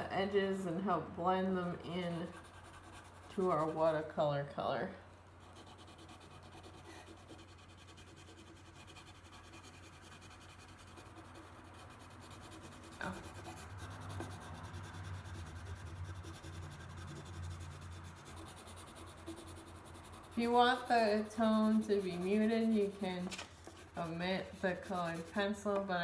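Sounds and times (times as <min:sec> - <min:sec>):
colored pencil scratching on paper: 0:01.6 - 0:04.1, 0:05.4 - 0:26.0.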